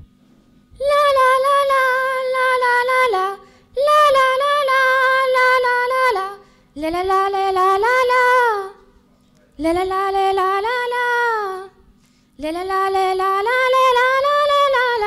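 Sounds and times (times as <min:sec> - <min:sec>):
girl singing unaccompanied: 0:00.8 - 0:08.9, 0:09.6 - 0:15.0.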